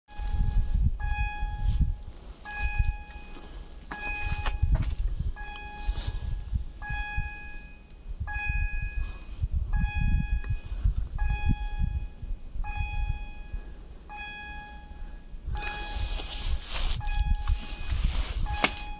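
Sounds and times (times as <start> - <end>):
gusty low rumble: 0.1 - 18.9
level crossing warning bell: 0.1 - 18.9.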